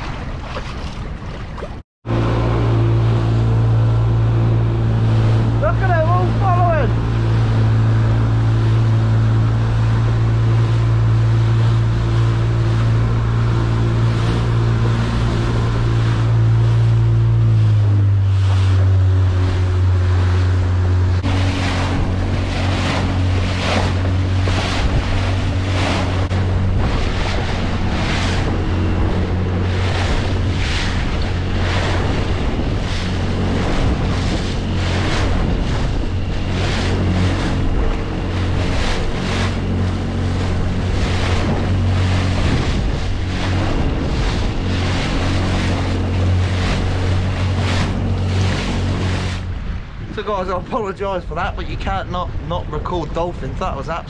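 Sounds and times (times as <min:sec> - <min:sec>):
outboard motor running: 0:00.0 - 0:54.0
rushing wake water: 0:00.0 - 0:54.0
waves splashing against hull: 0:00.0 - 0:54.0
wind on microphone: 0:00.0 - 0:54.0.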